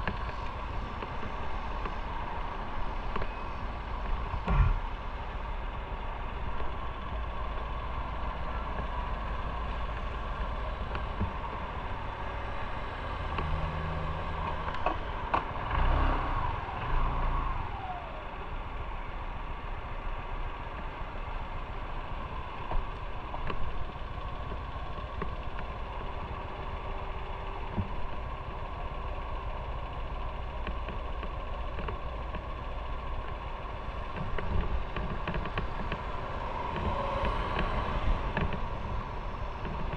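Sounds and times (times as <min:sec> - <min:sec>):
motorcycle engine running: 0:00.0 - 0:13.4, 0:17.6 - 0:39.9.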